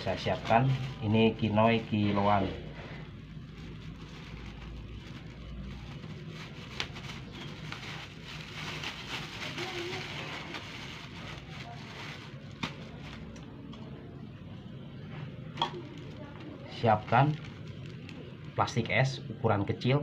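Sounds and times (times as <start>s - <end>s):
plastic bag crinkling: 0.0s - 13.5s, 15.6s - 18.9s.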